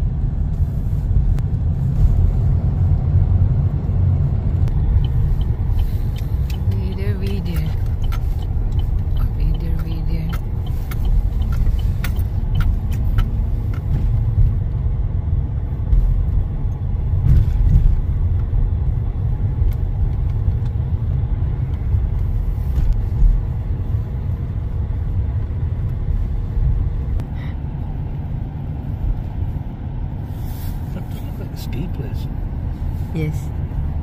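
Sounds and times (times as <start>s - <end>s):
car interior road rumble: 0.0s - 34.0s.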